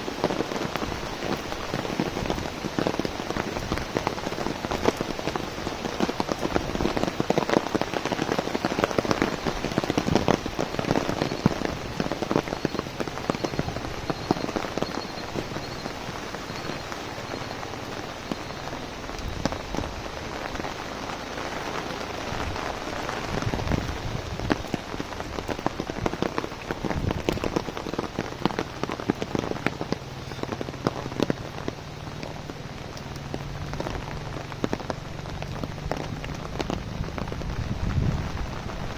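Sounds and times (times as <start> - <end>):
rain drops hitting umbrella: 0.0 - 38.9
steady rain wash: 0.0 - 38.9.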